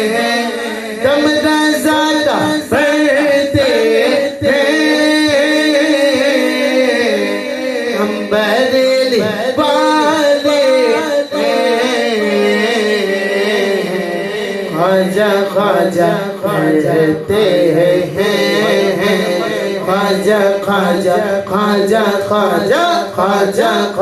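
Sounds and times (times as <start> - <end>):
person singing ornamented melody: 2.3 - 22.0.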